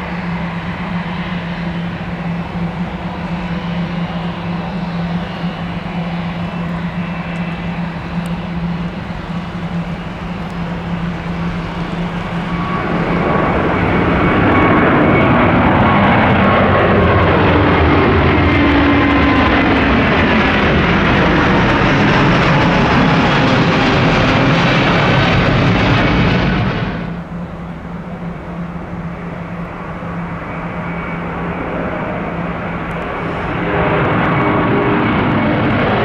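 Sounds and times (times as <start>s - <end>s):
jet engines passing close by: 0.0s - 36.0s.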